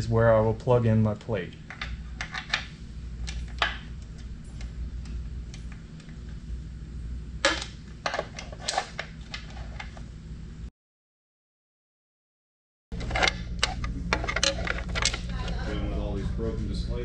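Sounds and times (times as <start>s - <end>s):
steady low hum: 0.0s - 10.7s, 12.9s - 17.0s.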